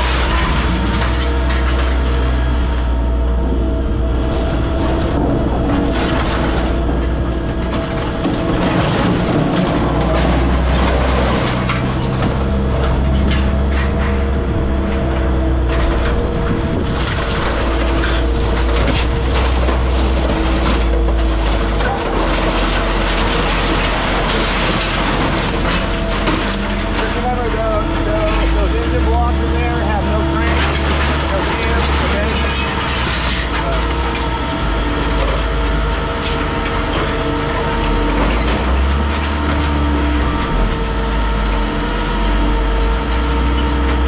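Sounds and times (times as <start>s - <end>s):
baler engine humming: 0.0s - 44.0s
metal clanks and crunches: 0.0s - 44.0s.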